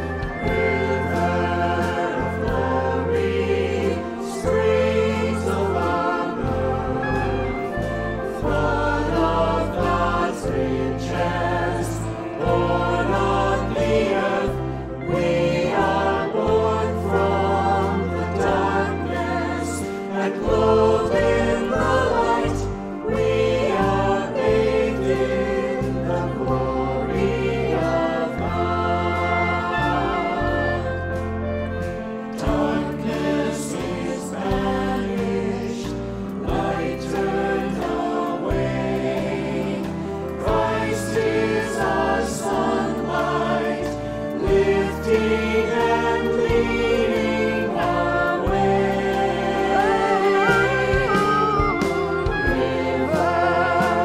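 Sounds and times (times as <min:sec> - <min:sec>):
choir singing a hymn: 0:00.0 - 0:54.0
instrumental accompaniment: 0:00.0 - 0:54.0.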